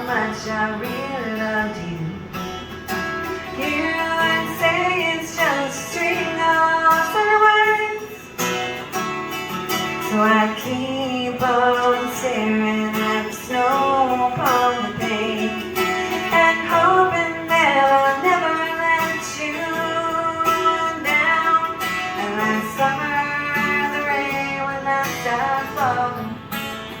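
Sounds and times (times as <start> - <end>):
woman singing: 0.0 - 2.4, 3.4 - 8.3, 9.9 - 26.5
strummed acoustic guitar: 0.0 - 27.0.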